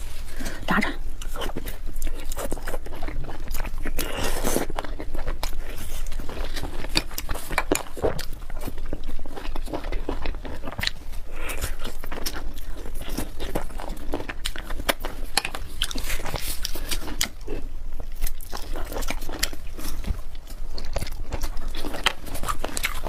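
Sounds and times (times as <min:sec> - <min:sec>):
person chewing and crunching: 0:00.0 - 0:23.0.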